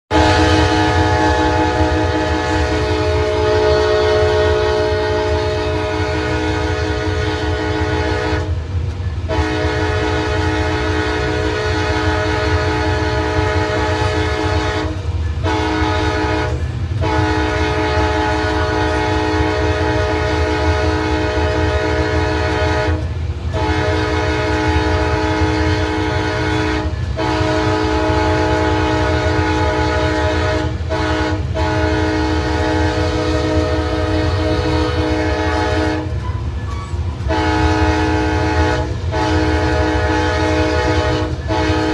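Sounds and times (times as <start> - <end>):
locomotive air horn blasts: 0.1 - 8.6, 9.3 - 36.2, 37.2 - 41.9
train rumbling: 0.1 - 41.9.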